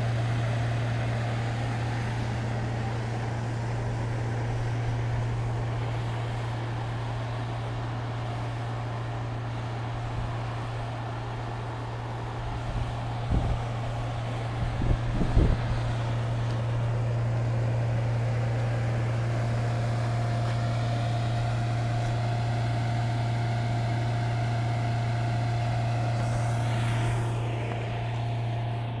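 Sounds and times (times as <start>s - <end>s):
diesel engine running: 0.0s - 29.0s
steady whine: 0.0s - 29.0s.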